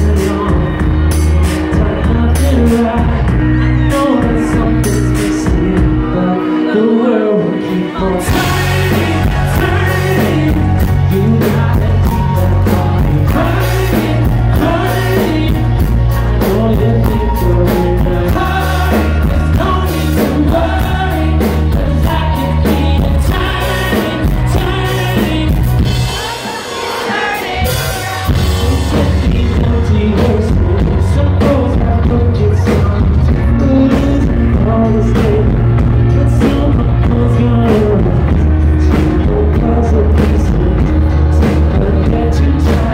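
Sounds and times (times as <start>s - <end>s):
live pop-rock band: 0.0s - 42.9s
man singing lead: 0.0s - 42.9s.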